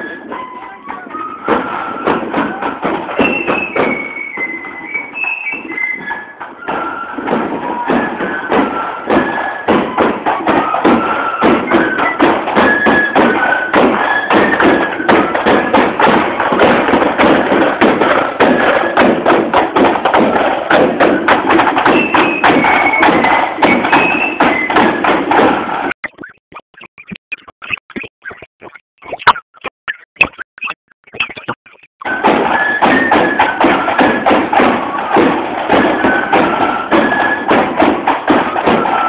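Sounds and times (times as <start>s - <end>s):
marching band of flutes and drums: 0.0s - 26.0s, 32.0s - 39.0s.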